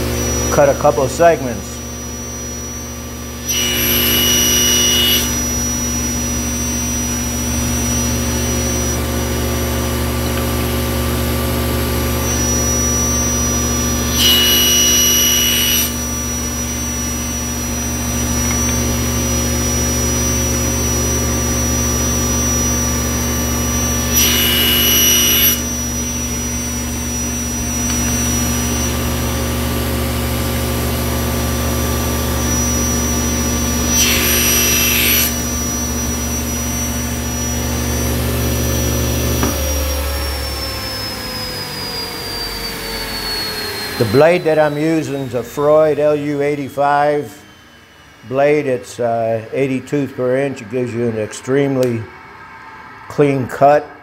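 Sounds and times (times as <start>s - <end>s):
saw cutting through wood: 0.0s - 47.6s
table saw motor hum: 0.0s - 50.4s.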